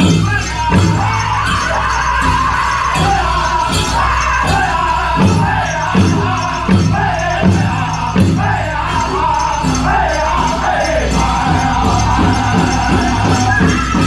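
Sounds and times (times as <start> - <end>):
big drum beating: 0.0 - 14.0
group singing: 0.0 - 14.0.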